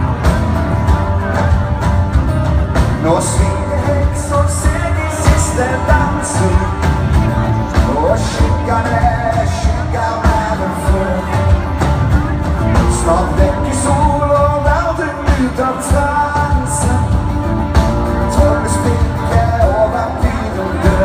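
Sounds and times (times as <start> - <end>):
live band music: 0.0 - 21.0
man singing: 2.8 - 21.0.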